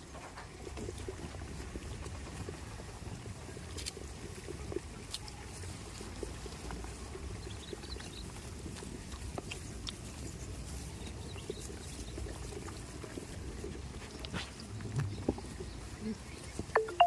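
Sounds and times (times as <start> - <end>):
goats' hooves clicking and knocking: 0.0 - 17.0.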